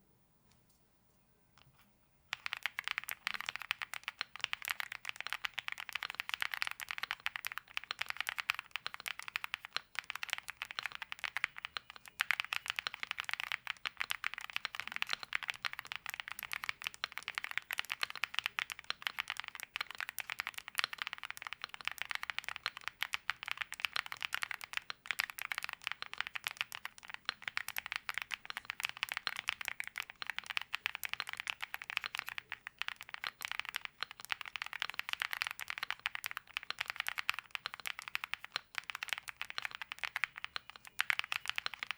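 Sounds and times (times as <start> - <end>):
mechanical keyboard typing: 2.3 - 41.9.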